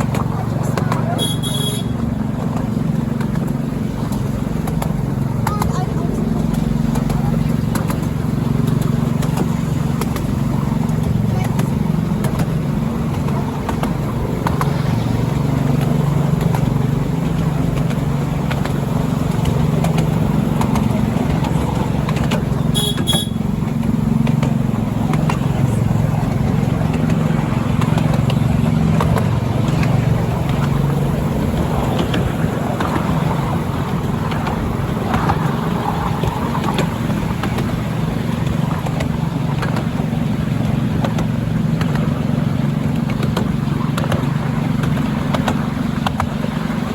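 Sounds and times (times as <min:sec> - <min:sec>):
train rumbling: 0:00.0 - 0:46.9.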